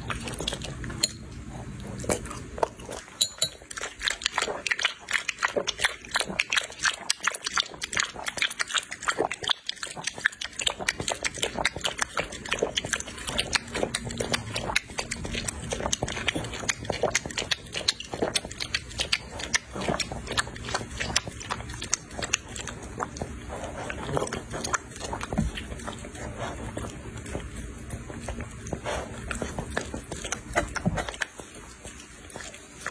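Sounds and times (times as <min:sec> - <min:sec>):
dog lapping liquid: 0:00.0 - 0:32.9.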